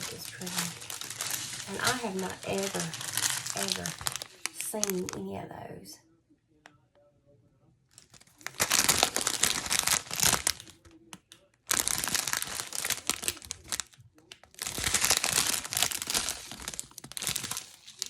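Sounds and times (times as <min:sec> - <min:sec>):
plastic packaging crinkling: 0:00.0 - 0:05.3, 0:08.0 - 0:18.0.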